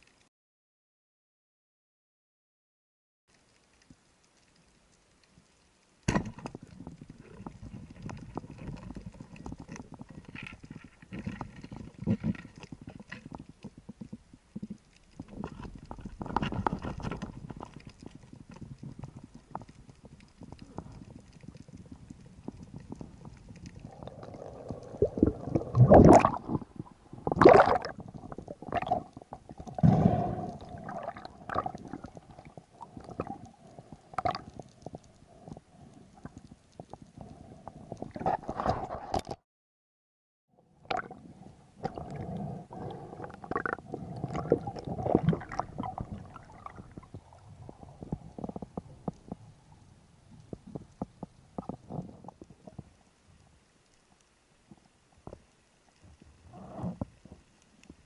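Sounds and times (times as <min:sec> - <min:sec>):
underwater gurgling and rumbling: 0:03.3 - 0:39.4, 0:40.5 - 0:58.0.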